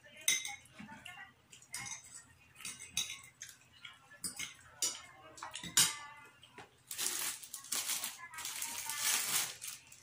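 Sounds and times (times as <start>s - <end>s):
plates and cutlery clinking: 0.2s - 9.4s.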